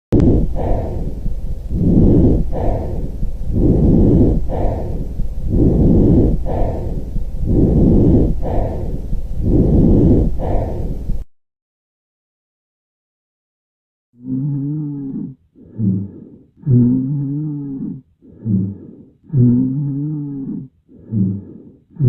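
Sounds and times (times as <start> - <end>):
breathing through a stethoscope: 0.2 - 11.2, 14.7 - 22.0.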